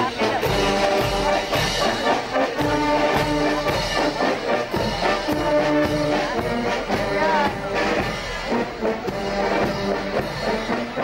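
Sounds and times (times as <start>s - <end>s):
bass drum beat: 0.0s - 11.0s
brass band playing a march: 0.0s - 11.0s.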